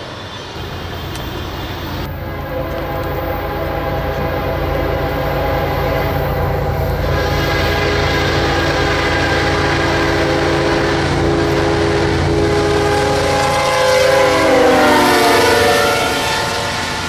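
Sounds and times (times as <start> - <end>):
locomotives rumbling: 0.5 - 17.0
train air horn: 1.9 - 17.0.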